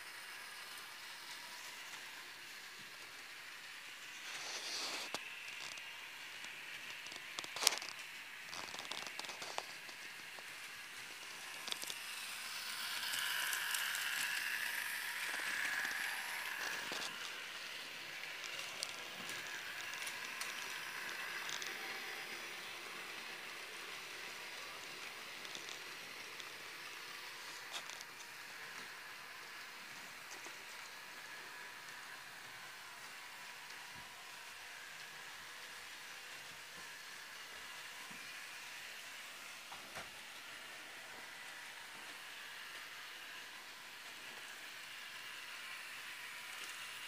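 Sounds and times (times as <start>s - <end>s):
model train rolling hiss: 0.0s - 47.0s.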